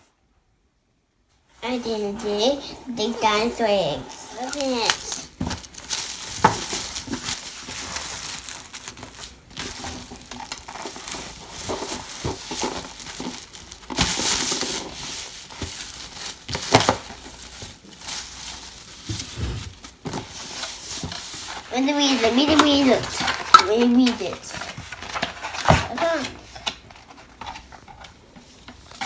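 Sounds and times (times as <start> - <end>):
packaging crinkling and rustling: 3.1 - 29.0.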